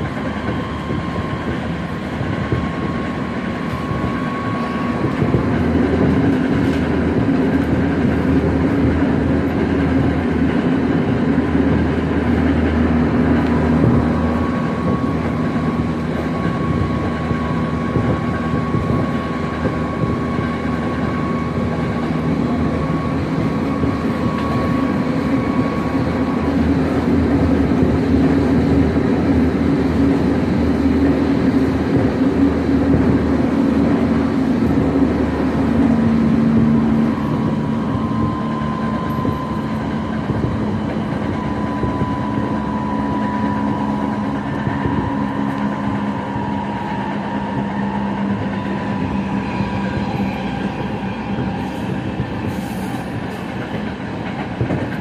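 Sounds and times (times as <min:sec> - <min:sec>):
traction motor hum and whine: 0:00.0 - 0:55.0
train wheels rumbling on rail: 0:00.0 - 0:55.0.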